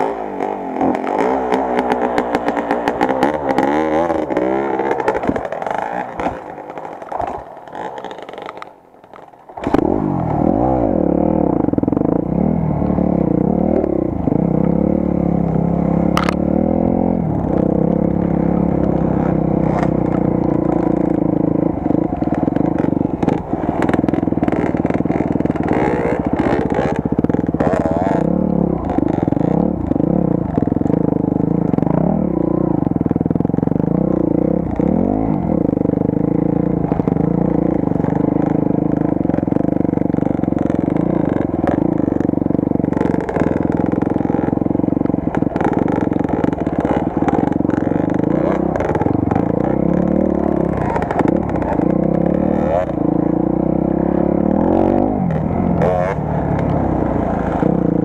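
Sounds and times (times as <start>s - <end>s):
dirt bike engine revving: 0.0s - 8.5s, 9.6s - 58.0s.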